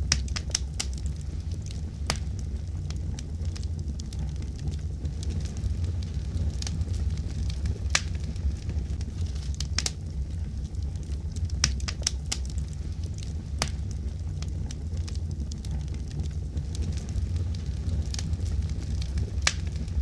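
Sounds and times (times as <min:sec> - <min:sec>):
sharp pops of fire: 0:00.0 - 0:10.1, 0:11.0 - 0:20.0
low fire rumble: 0:00.0 - 0:20.0
wood fire crackling: 0:00.0 - 0:20.0.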